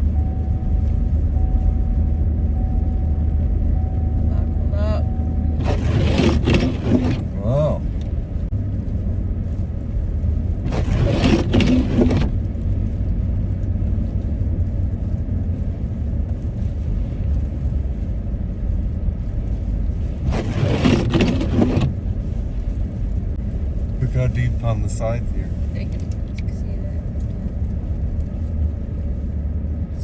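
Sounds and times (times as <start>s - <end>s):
car cabin rumble: 0.0s - 30.0s.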